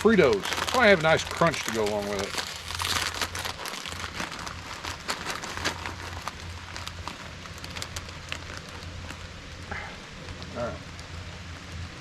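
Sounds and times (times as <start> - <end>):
rain drops ticking: 0.0 - 12.0
soft rain hiss: 0.0 - 12.0
steady low hum: 0.0 - 12.0.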